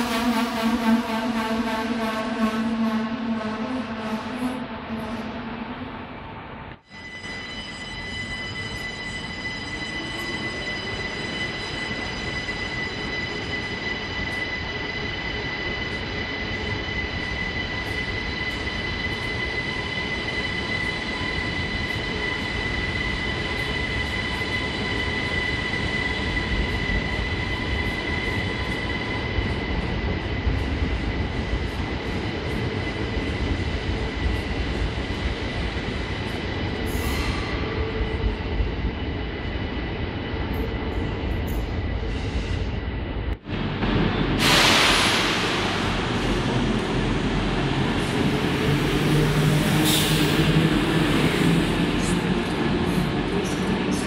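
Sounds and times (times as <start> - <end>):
train high whine: 0.0 - 54.0
wheels rumbling on rail: 0.0 - 54.0.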